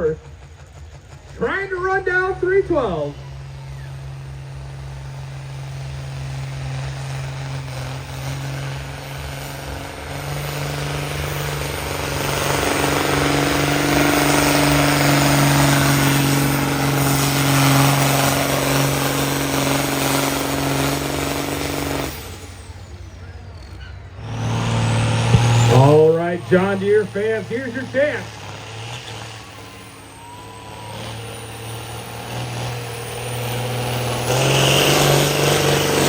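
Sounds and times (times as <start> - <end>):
tractor engine at full throttle: 0.0 - 36.0.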